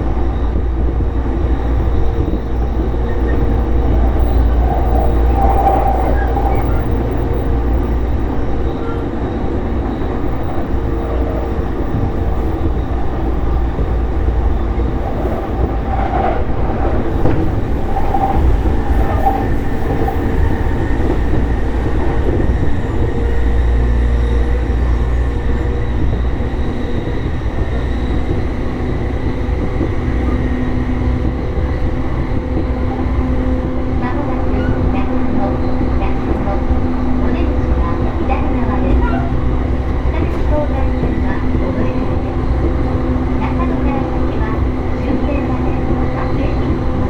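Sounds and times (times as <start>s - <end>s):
train wheels rumbling: 0.0s - 47.0s.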